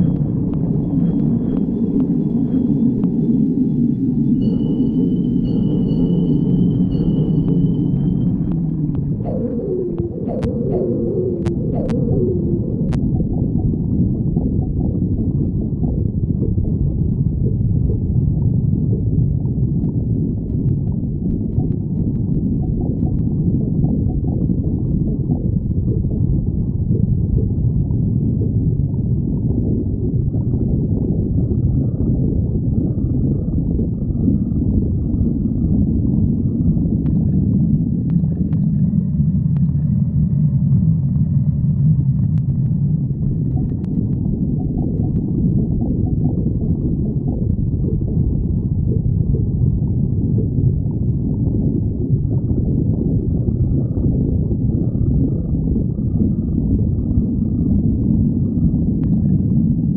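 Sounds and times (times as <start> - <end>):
stomach growling: 6.9 - 59.9.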